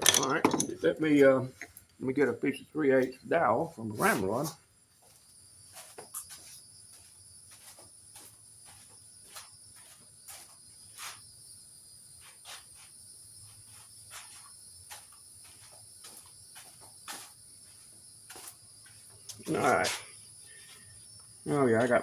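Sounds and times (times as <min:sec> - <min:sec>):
crickets singing: 0:00.0 - 0:22.0.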